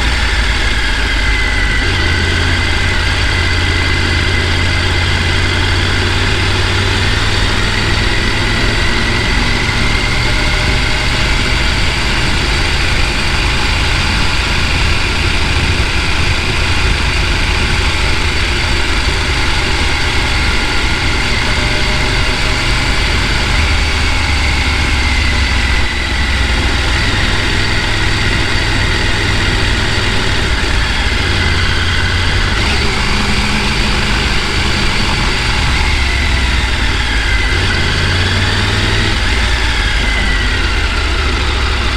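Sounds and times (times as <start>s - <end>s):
road noise: 0.0s - 41.9s
vehicle engine droning: 0.0s - 41.9s.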